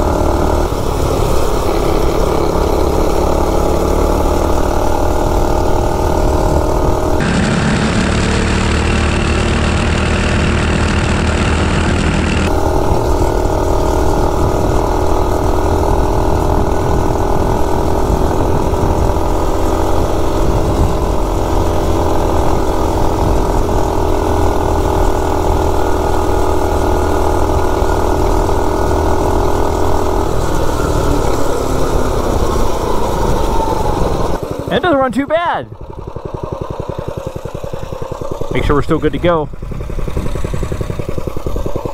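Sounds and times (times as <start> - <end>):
mini bike engine at full throttle: 0.0 - 41.9.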